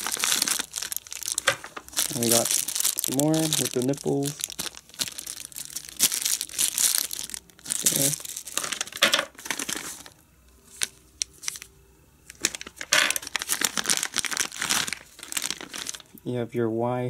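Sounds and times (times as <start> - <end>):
plastic bags crinkling: 0.0 - 11.7, 12.3 - 16.2.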